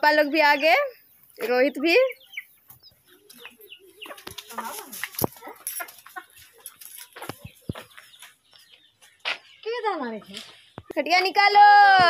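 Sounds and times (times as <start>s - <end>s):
chickens clucking: 0.1s - 11.3s.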